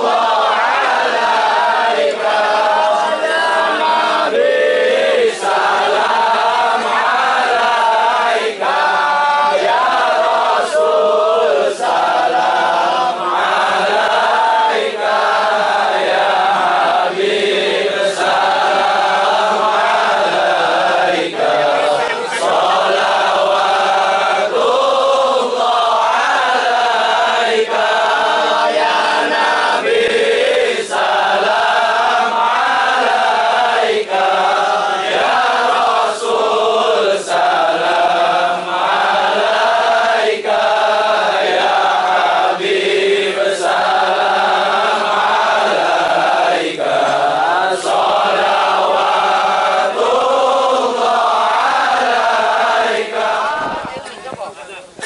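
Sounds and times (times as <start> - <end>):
men chanting in unison: 0.0 - 54.2.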